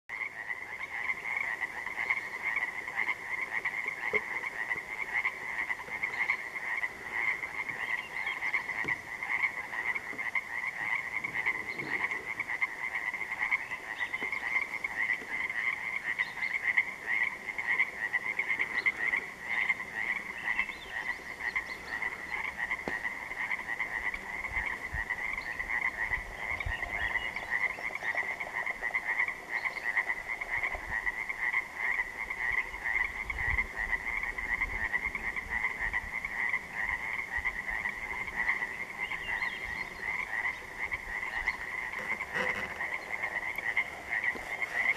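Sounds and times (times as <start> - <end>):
chorus of tree frogs calling: 0.1 - 44.9.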